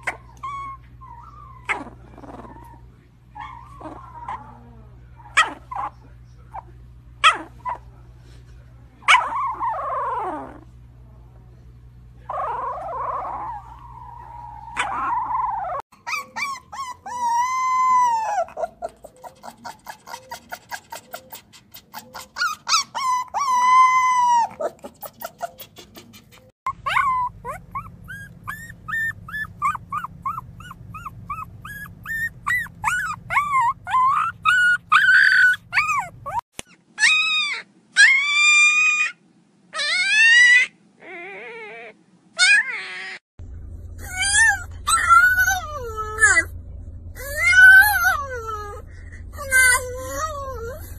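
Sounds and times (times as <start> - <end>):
puppy whining: 0.0 - 7.9, 9.0 - 10.7, 12.3 - 43.2, 44.0 - 50.9.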